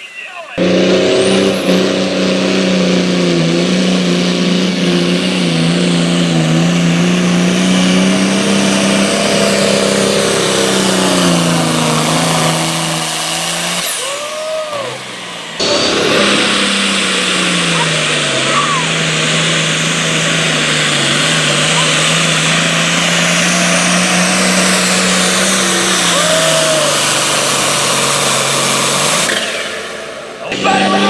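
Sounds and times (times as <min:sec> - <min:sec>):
diesel tractor engine at full throttle: 0:00.0 - 0:31.0.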